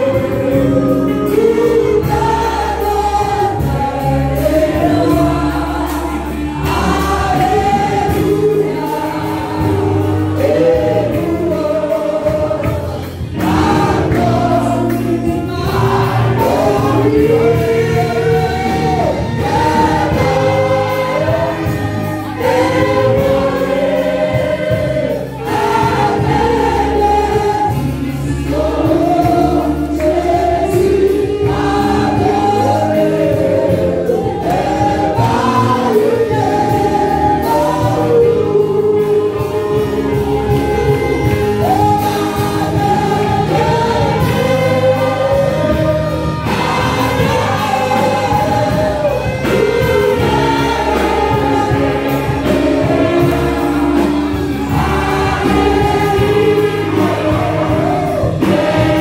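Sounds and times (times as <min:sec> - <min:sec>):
choir singing a hymn: 0:00.0 - 0:59.0
saxophone: 0:00.0 - 0:59.0
trombone: 0:00.0 - 0:59.0.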